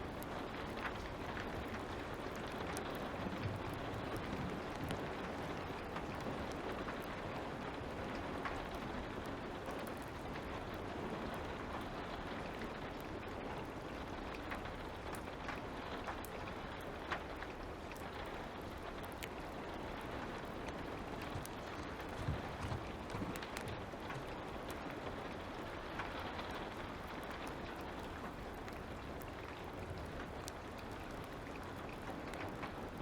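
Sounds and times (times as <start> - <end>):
fire crackling and popping: 0.0 - 33.0
light rain falling: 0.0 - 33.0.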